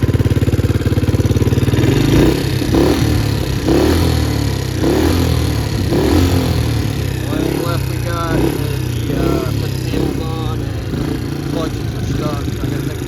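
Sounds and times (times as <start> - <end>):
small engine idling and revving: 0.0 - 13.0.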